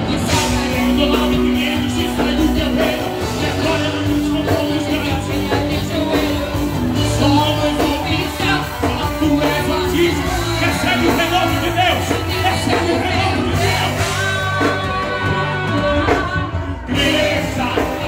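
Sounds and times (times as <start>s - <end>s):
gospel band music: 0.0s - 18.0s
person singing or shouting: 0.0s - 18.0s.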